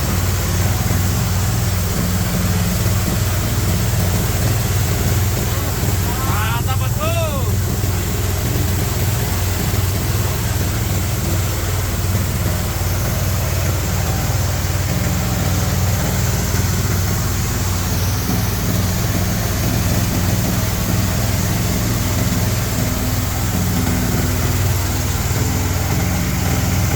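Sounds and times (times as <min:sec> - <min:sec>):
feed grinder running: 0:00.0 - 0:26.9.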